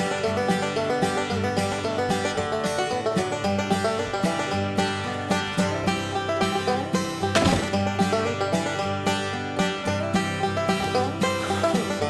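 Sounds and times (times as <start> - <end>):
upbeat bluegrass music with banjo: 0.0 - 12.0.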